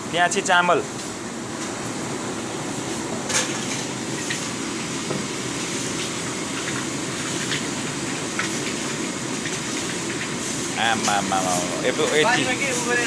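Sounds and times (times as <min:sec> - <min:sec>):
gas burner hissing: 0:00.0 - 0:13.0.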